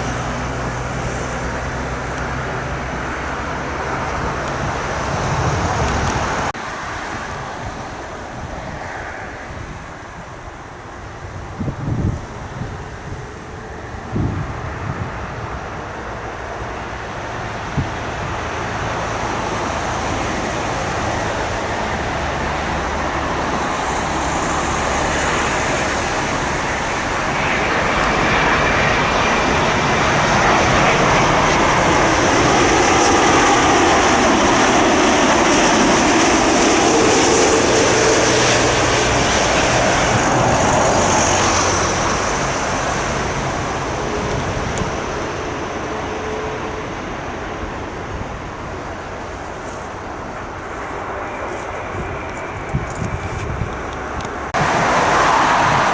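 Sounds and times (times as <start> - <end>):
jet airliner engines passing: 0.0 - 55.9.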